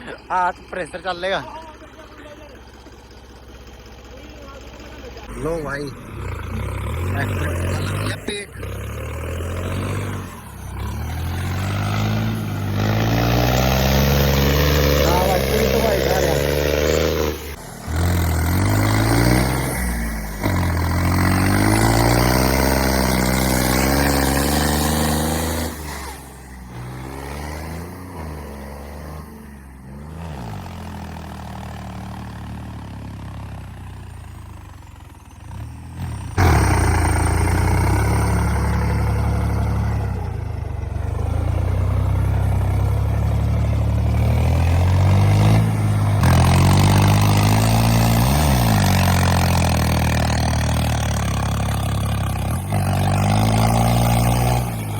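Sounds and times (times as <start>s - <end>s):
tractor engine under heavy load: 0.0s - 54.9s.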